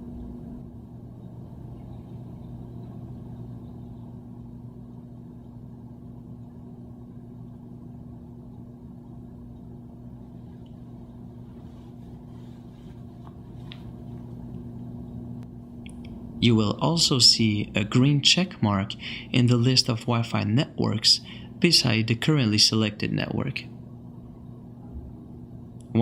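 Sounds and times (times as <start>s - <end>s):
low background rumble: 0.0s - 26.0s
steady low two-tone hum: 0.0s - 26.0s.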